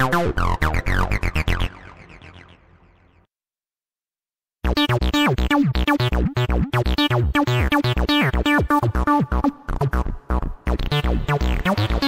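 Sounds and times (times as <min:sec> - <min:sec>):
acid bass synth pattern: 0:00.0 - 0:02.7, 0:04.6 - 0:12.0.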